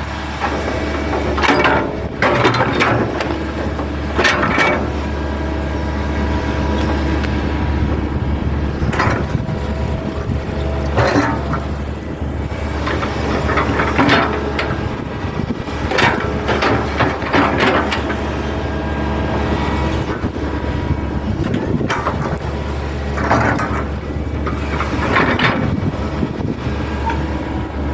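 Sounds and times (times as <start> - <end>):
excavator bucket clanking: 0.0 - 27.9
excavator diesel engine running: 0.0 - 27.9.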